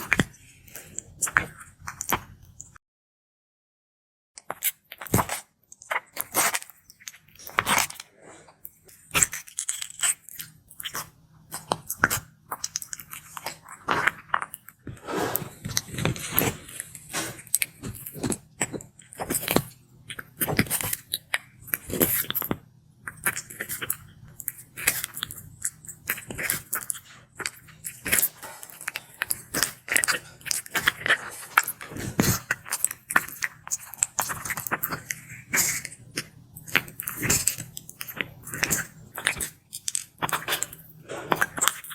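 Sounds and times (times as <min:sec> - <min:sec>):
tortoise chewing food: 0:04.5 - 0:41.9.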